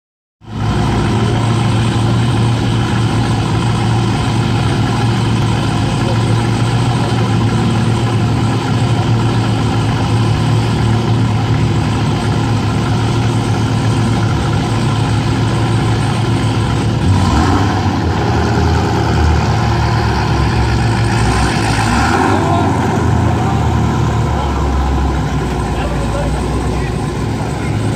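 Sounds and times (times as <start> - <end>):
car engine idling: 0.4 - 27.9.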